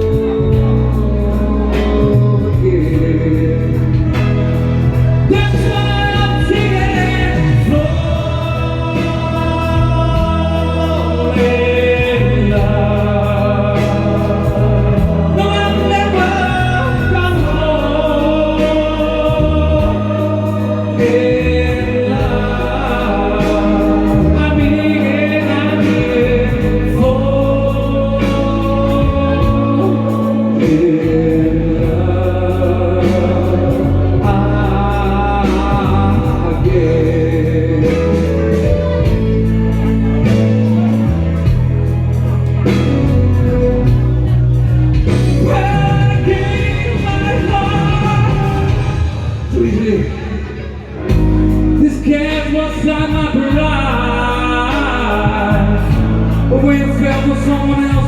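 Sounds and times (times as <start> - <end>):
bass line: 0.0 - 58.0
person singing over backing track: 0.0 - 58.0.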